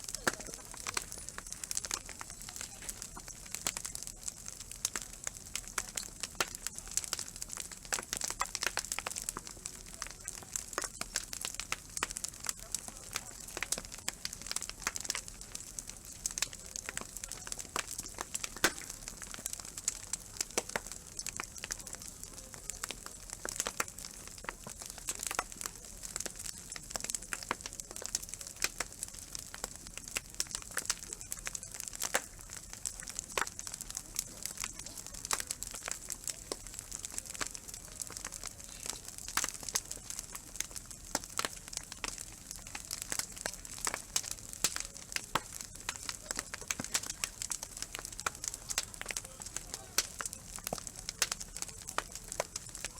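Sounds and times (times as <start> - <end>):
fire hiss: 0.0 - 52.9
wood fire crackling and popping: 0.0 - 52.9.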